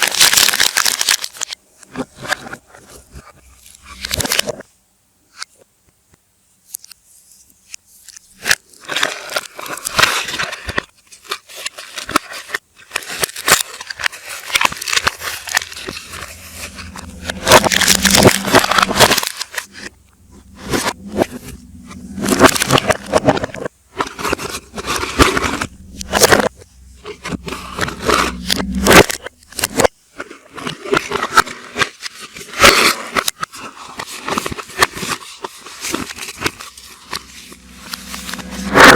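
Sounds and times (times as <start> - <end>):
packaging crinkling played backwards: 0.0 - 4.6, 8.4 - 38.9.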